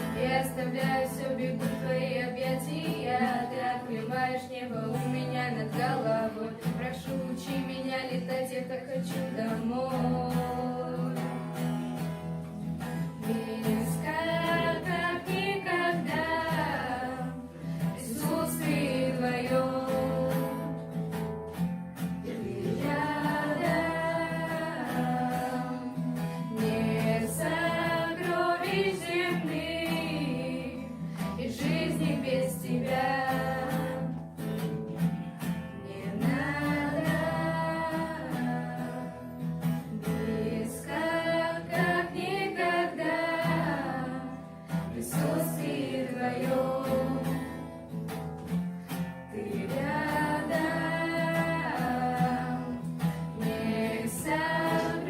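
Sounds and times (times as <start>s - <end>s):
person singing: 0.0s - 11.7s, 13.0s - 20.9s, 22.2s - 34.2s, 35.7s - 48.0s, 49.2s - 55.0s
guitar accompaniment: 0.0s - 55.0s.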